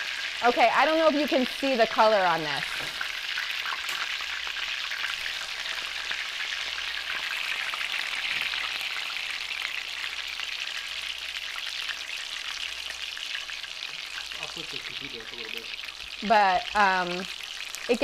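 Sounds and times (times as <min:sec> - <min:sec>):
patties sizzling in hot oil: 0:00.0 - 0:18.0.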